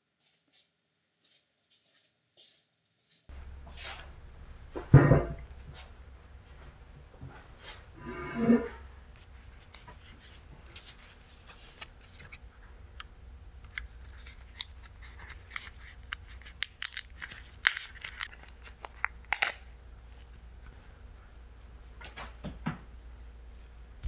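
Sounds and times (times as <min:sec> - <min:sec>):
low workshop hum: 0:03.2 - 0:24.0.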